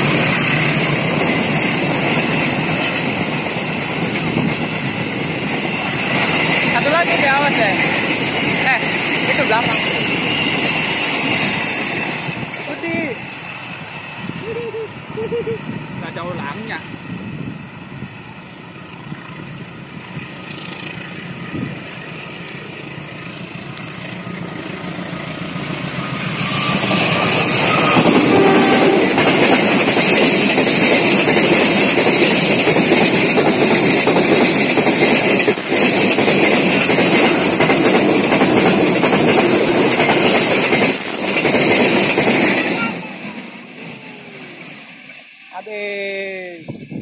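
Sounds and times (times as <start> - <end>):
freight train wheels on rails: 0.0 - 47.0.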